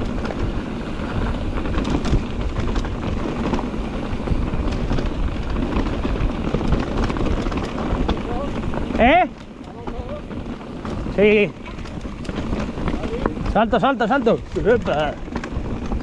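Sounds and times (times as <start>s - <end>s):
bike rattling and knocking: 0.0s - 16.0s
bike tyres crunching over stones: 0.0s - 16.0s
wind rumble on microphone: 0.0s - 16.0s.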